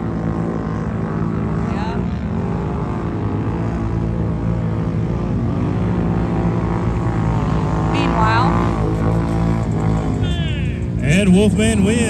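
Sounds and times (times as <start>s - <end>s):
racing vehicle engines droning: 0.0s - 12.0s.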